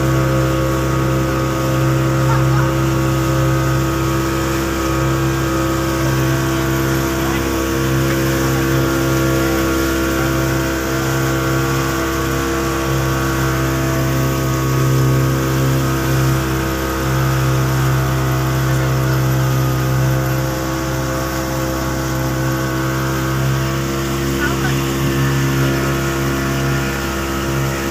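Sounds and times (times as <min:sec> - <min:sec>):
motorboat engine running: 0:00.0 - 0:27.9
water rushing from wake: 0:00.0 - 0:27.9.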